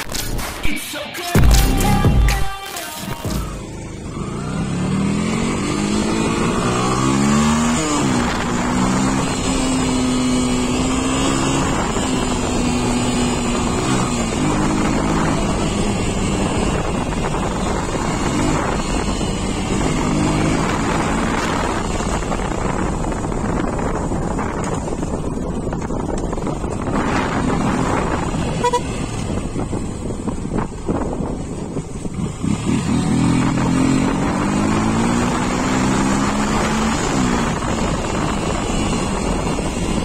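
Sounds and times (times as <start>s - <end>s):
motorcycle engine accelerating: 3.2s - 40.0s.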